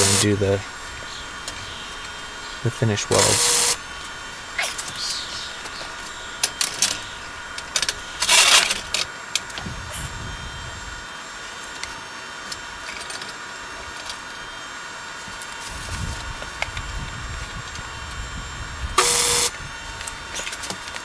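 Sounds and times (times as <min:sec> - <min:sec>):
faint steady hum: 0:00.0 - 0:12.0, 0:15.6 - 0:21.0.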